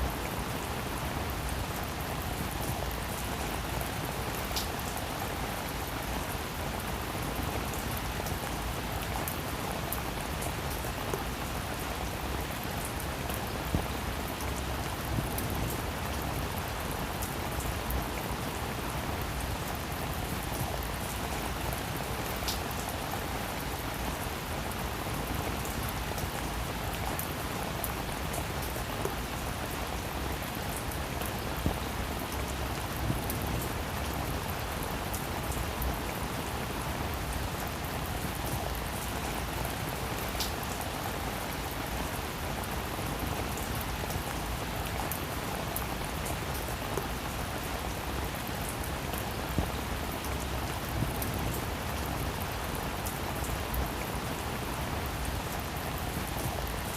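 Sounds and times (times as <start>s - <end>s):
rain on a roof: 0.0s - 56.9s.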